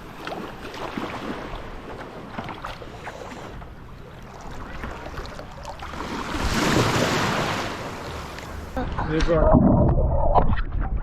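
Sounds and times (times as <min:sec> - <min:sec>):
water lapping around paddleboard: 0:00.0 - 0:09.2.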